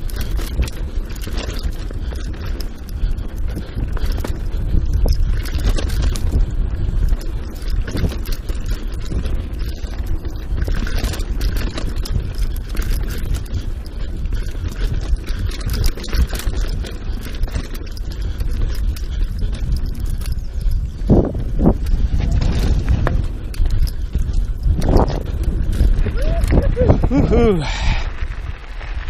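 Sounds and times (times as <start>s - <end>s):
bike knocks and rattles: 0.0s - 27.6s
tyre noise on dirt trail: 0.0s - 29.0s
wind buffeting microphone: 0.0s - 29.0s.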